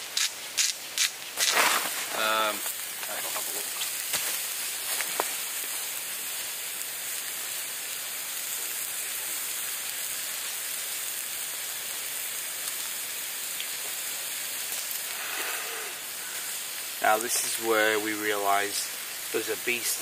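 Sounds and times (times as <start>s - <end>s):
steaks sizzling in a frying pan: 0.0s - 20.0s.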